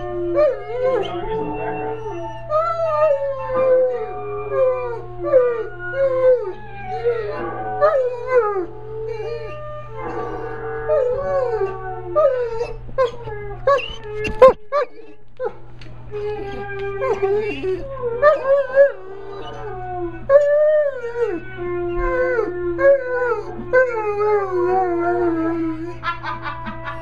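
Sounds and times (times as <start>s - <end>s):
dog howling and whimpering: 0.0s - 27.0s.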